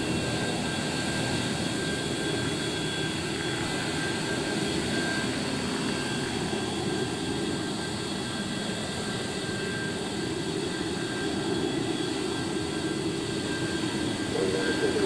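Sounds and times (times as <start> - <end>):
high jet whine: 0.0 - 15.0
jet engines running: 0.0 - 15.0.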